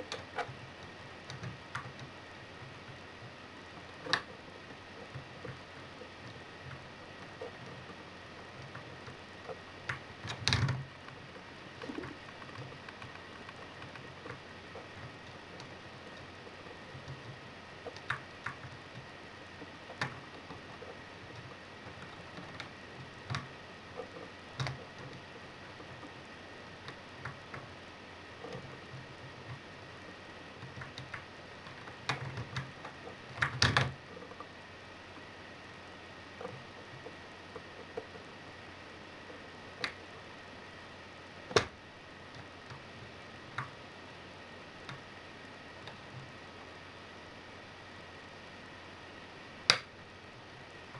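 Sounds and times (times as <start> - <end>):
faint steady hiss: 0.0 - 50.9.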